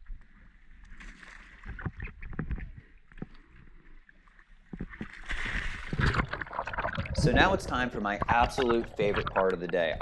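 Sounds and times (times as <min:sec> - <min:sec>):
water sloshing around boat: 0:00.0 - 0:10.0.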